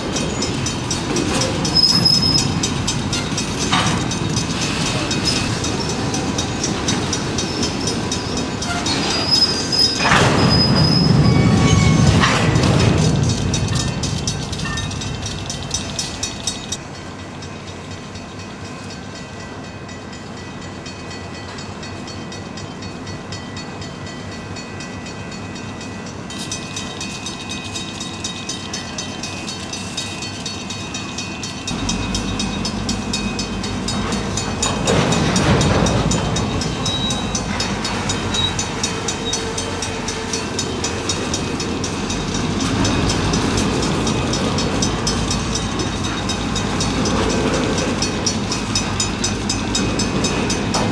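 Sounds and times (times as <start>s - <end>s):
diesel locomotive engine running: 0.0s - 50.9s
rapid ticking of rolling cars: 0.0s - 50.9s.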